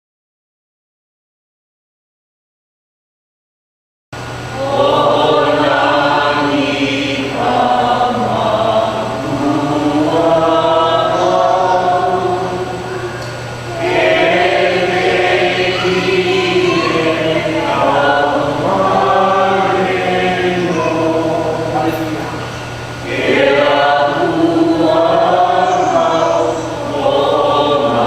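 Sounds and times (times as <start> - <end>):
group singing worship song: 4.2 - 28.0.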